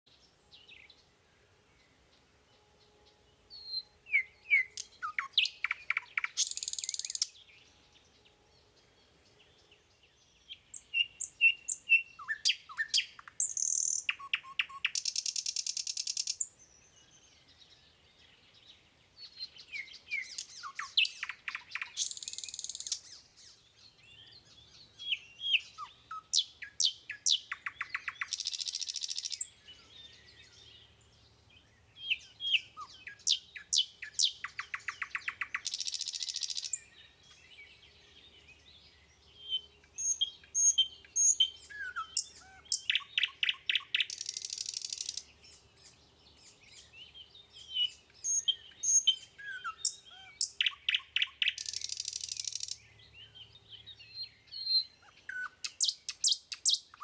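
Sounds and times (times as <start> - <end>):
birds chirping and trilling: 0.1 - 57.0.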